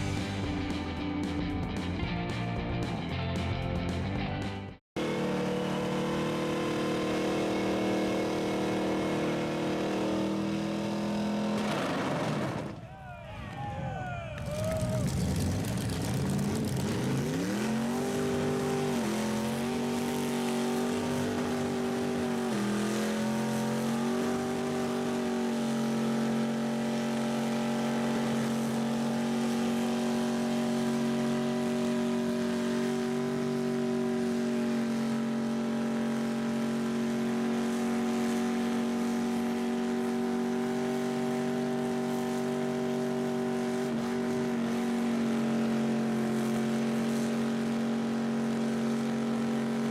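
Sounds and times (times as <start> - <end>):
car engine revving: 5.0 - 12.8, 14.6 - 49.9.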